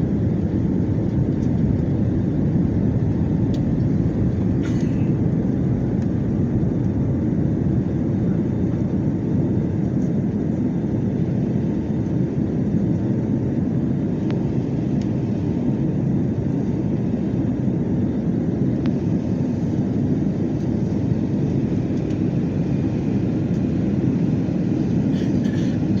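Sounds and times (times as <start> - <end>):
aircraft cabin noise: 0.0 - 26.0.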